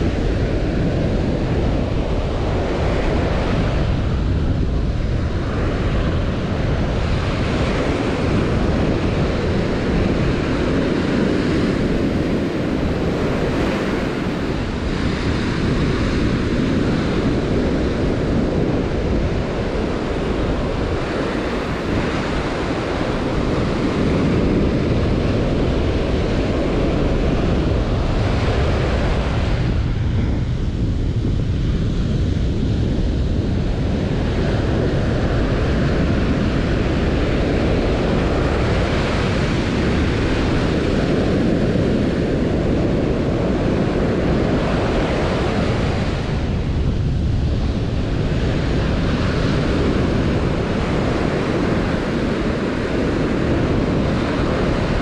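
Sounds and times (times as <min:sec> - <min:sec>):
ocean surf breaking on sand: 0:00.0 - 0:55.0
wind buffeting microphone: 0:00.0 - 0:55.0.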